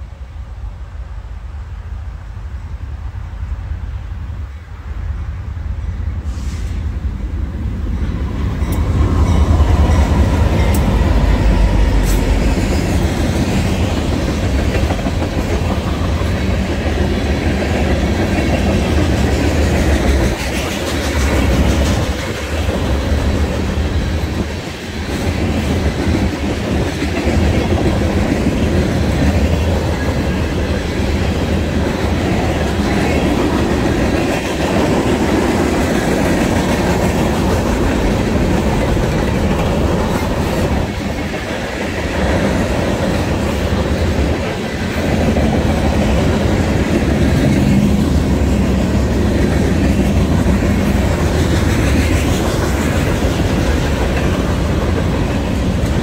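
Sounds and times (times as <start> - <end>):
diesel locomotives: 0.0 - 56.0
freight cars rumbling: 0.0 - 56.0
wheels clickety-clack on rails: 7.4 - 56.0.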